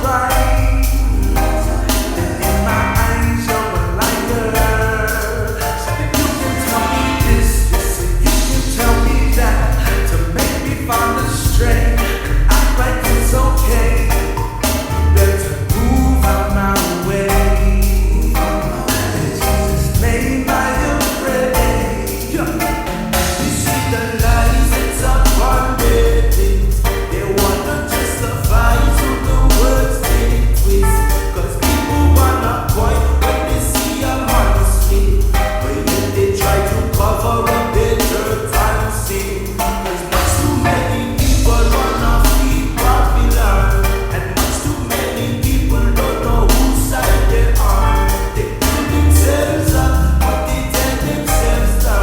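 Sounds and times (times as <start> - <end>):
deep bass: 0.0 - 52.0
drum beat: 0.0 - 52.0
person singing: 0.0 - 52.0.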